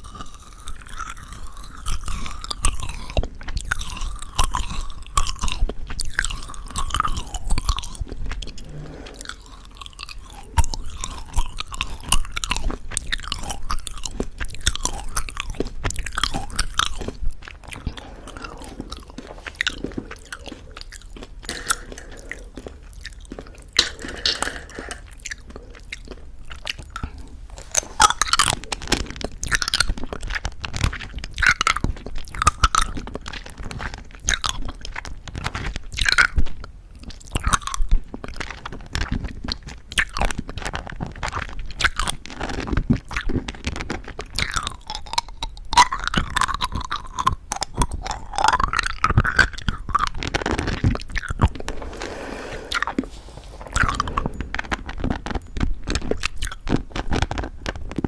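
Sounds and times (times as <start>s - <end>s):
wet chewing: 0.0s - 36.2s, 37.0s - 58.0s
candy crunching: 0.0s - 36.4s, 37.0s - 58.0s.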